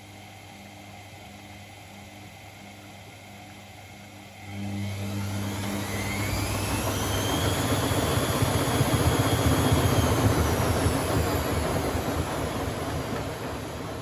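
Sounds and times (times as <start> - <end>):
washing machine motor whine: 0.0 - 14.0.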